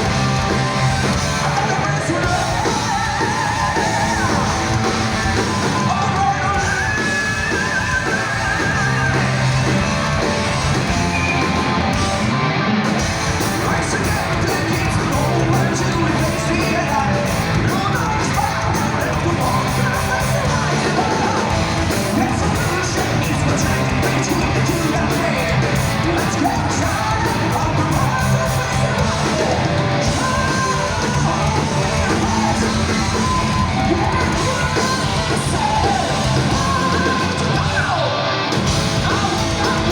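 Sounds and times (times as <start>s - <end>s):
drums: 0.0s - 39.9s
electric guitars: 0.0s - 39.9s
vocalist singing and yelling: 0.0s - 39.9s.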